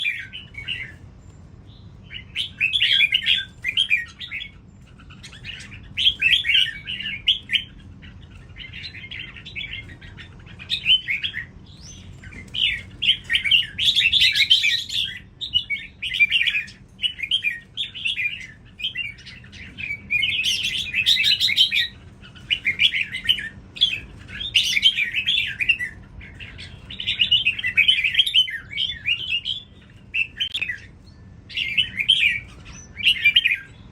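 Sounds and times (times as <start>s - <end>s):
bird singing chattering phrases: 0.0s - 33.9s.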